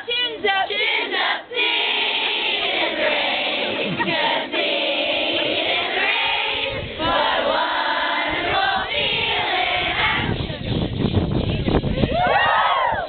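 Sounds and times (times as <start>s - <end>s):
group of voices singing: 0.0s - 10.5s.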